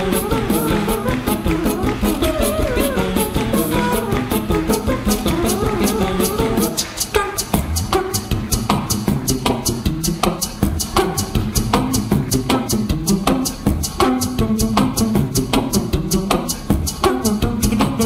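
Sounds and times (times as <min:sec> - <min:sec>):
beatboxed rhythm: 0:00.0 - 0:18.0
layered vocal melody: 0:00.0 - 0:18.0.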